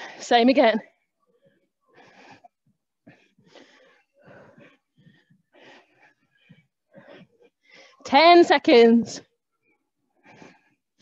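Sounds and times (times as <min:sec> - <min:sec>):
woman breathing heavily: 0:00.0 - 0:08.1, 0:10.1 - 0:11.0.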